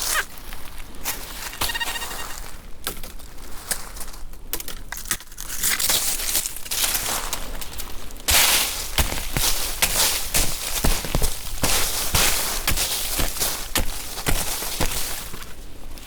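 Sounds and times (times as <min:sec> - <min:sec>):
rustling of dry forest litter: 0:00.0 - 0:16.0.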